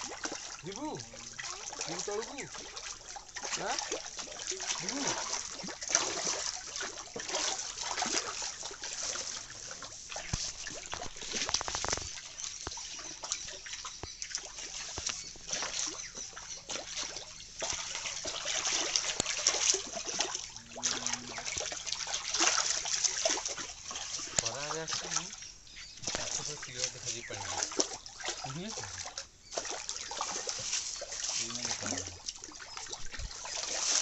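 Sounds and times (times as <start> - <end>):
fish splashing in water: 0.0 - 34.0.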